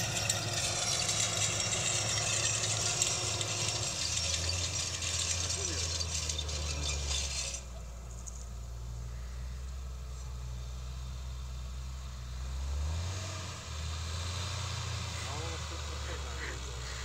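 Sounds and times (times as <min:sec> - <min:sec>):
distant tractor engine drone: 0:00.0 - 0:17.0.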